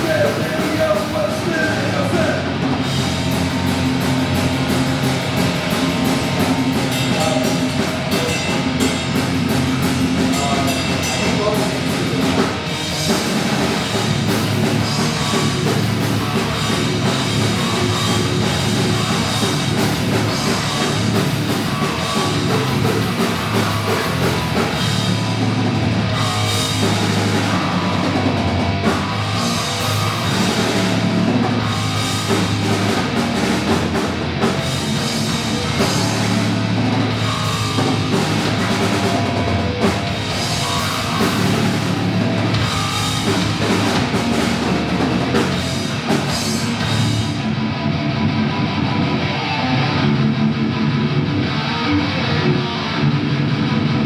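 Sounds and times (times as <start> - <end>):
drum kit with cymbals: 0.0 - 47.8
bass guitar: 0.0 - 54.0
distorted electric guitars: 0.0 - 54.0.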